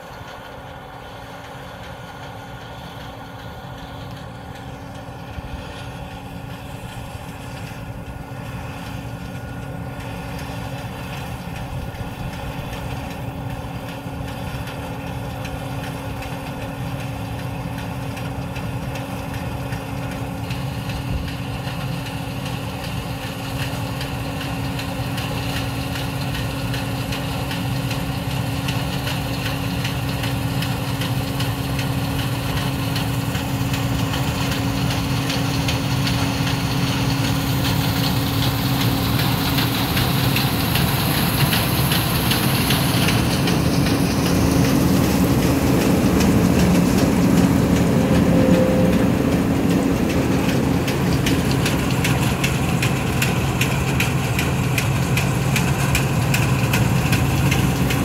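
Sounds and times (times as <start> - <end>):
combine harvester engine droning: 0.0 - 58.0.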